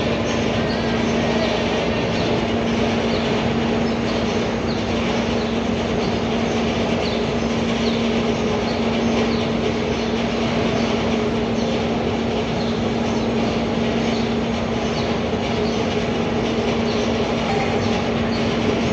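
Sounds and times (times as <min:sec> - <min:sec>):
machine humming: 0:00.0 - 0:18.9.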